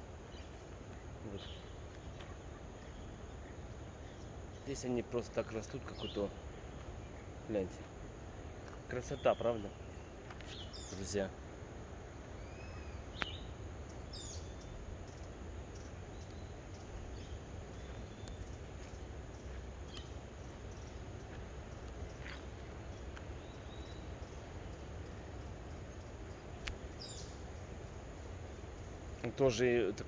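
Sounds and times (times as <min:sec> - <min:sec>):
bird chirps and gliding calls: 0:00.0 - 0:11.4, 0:12.2 - 0:27.7
steady low rumble: 0:00.0 - 0:29.3.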